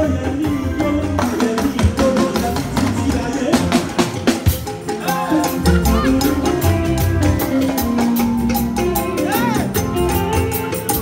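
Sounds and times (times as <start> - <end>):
music with fast drum beat: 0.0 - 11.0.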